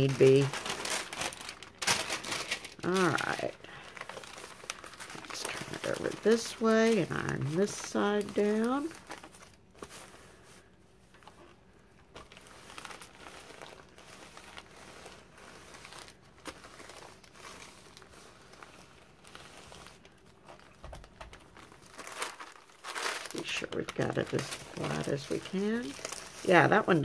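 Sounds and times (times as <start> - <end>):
paper rustling under iron: 0.0 - 27.0.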